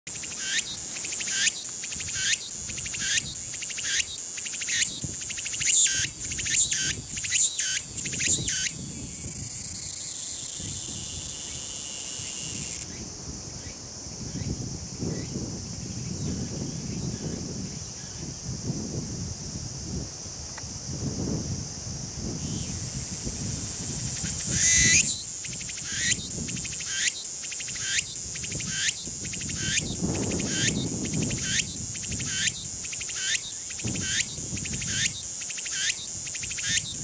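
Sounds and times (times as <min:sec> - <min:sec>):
cicada singing: 0:00.1 - 0:37.0.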